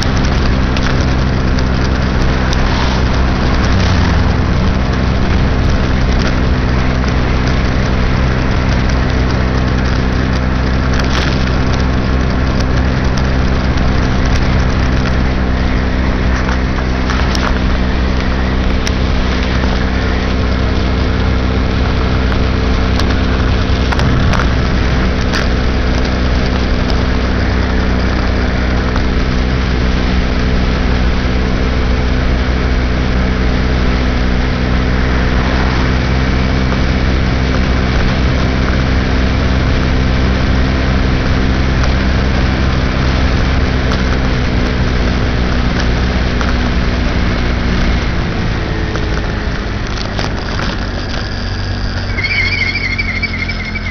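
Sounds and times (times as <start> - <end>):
moped engine running: 0.0 - 53.9
wind and road noise: 0.0 - 53.9.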